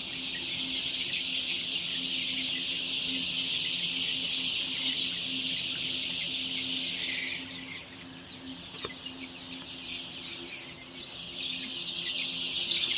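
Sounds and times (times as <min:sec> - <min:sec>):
chicks peeping: 0:00.0 - 0:12.9.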